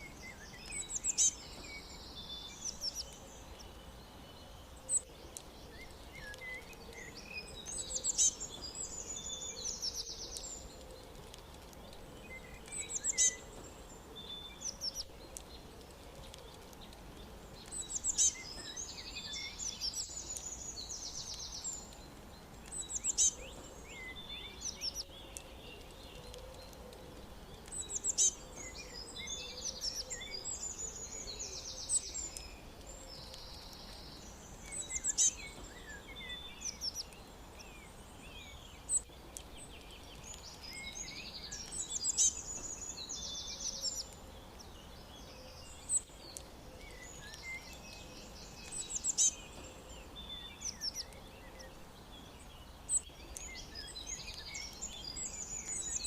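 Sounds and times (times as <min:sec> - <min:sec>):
faint background hiss: 0:00.0 - 0:56.0
songbirds trilling: 0:00.0 - 0:56.0.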